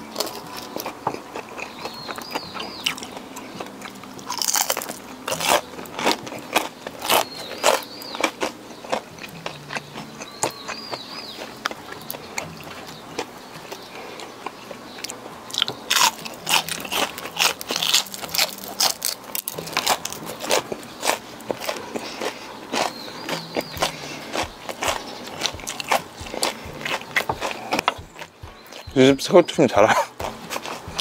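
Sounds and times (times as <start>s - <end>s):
crunchy chewing of fried shrimp: 0.0s - 29.1s, 29.8s - 31.0s.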